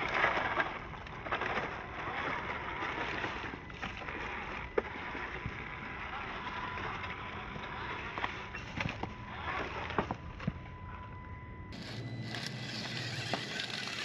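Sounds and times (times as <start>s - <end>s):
toy car motor and gears whining: 0.0s - 10.6s, 11.7s - 14.0s.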